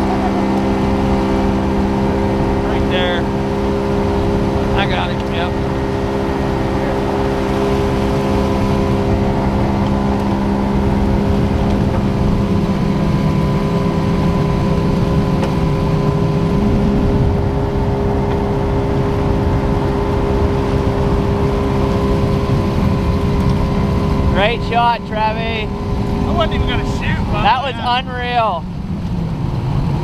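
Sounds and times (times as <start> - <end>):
boat motor drone: 0.0 - 30.0.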